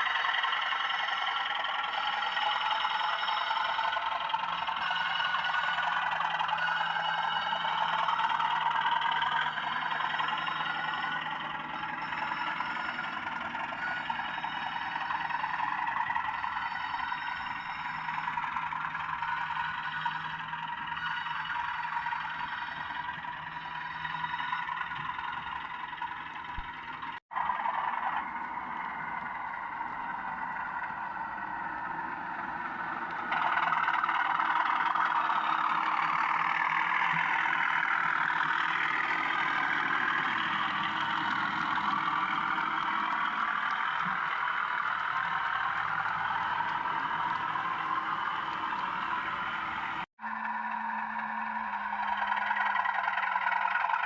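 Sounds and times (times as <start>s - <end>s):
diesel engine sound through small speaker: 0.0s - 54.0s.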